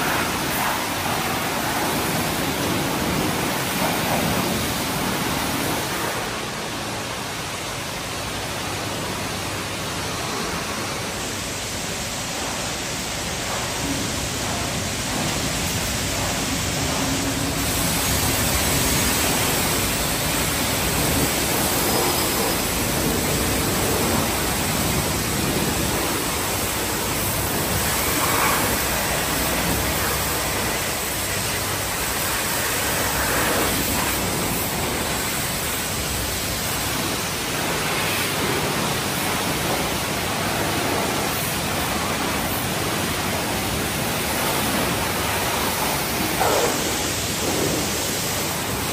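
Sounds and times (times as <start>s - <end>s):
pressure washer spraying water: 0.0s - 48.9s.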